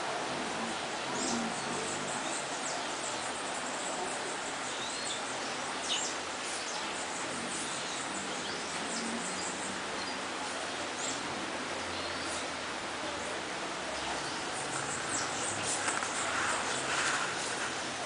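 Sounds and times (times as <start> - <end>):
outdoor background hiss: 0.0 - 18.0
birds chirping: 0.7 - 18.0.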